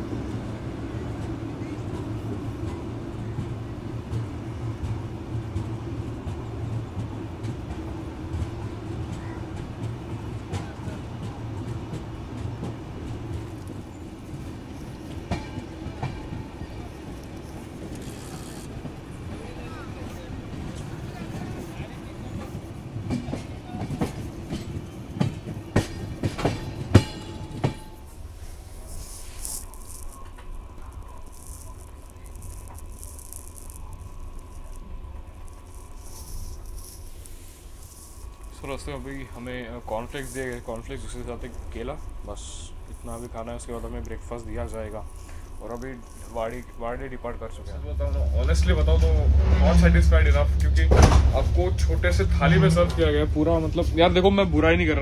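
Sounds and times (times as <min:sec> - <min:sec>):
train rolling low drone: 0:00.0 - 0:55.0
wheels clacking on track: 0:00.0 - 0:55.0.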